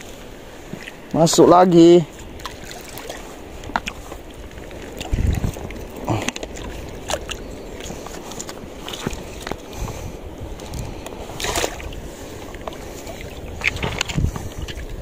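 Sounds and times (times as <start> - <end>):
seawater sloshing and lapping: 0.0 - 15.0
water splashes and knocks: 0.7 - 1.4, 2.4 - 10.0, 10.6 - 15.0.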